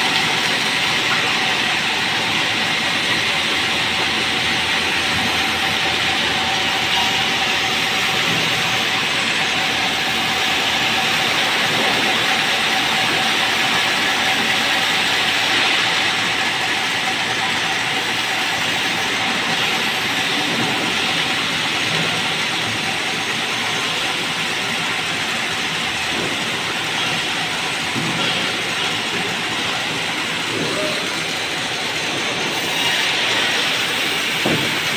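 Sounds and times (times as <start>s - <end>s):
band saw running: 0.0s - 34.9s.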